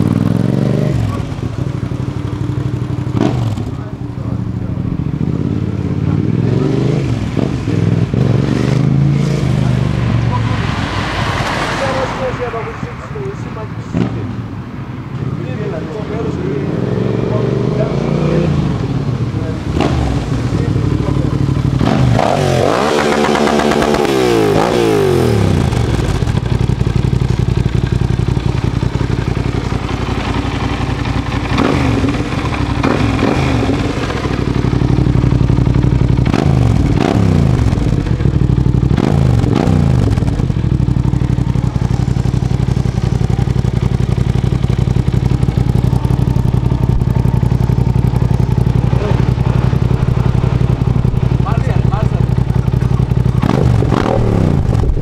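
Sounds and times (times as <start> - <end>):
motorcycle engine idling: 0.0 - 10.7, 11.9 - 22.2, 22.9 - 55.0
motorcycle engine revving: 0.0 - 55.0.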